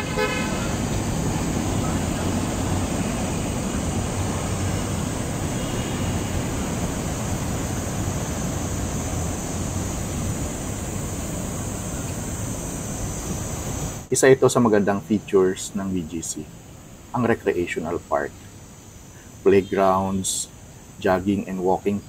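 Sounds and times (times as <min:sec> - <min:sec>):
city street traffic roar: 0:00.0 - 0:22.0.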